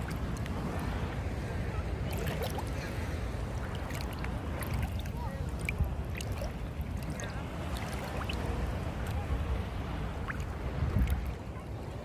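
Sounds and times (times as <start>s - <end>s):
shallow water lapping around legs: 0.0s - 12.0s.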